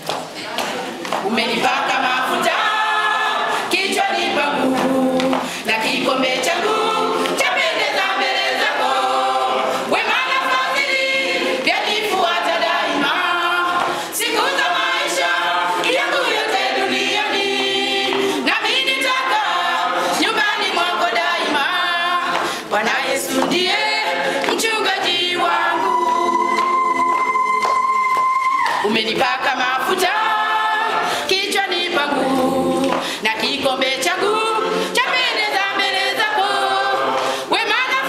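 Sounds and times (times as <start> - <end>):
choir singing a cappella: 0.0 - 38.0.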